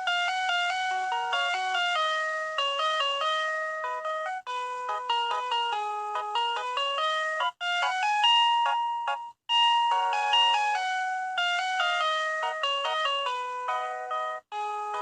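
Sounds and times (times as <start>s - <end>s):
electronic bell chime melody: 0.0s - 15.0s.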